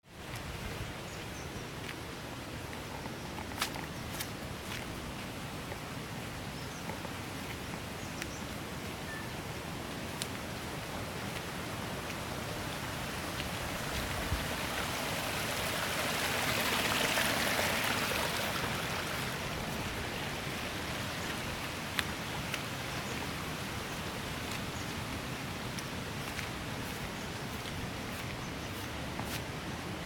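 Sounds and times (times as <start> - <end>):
falling water rushing: 3.5 - 30.0.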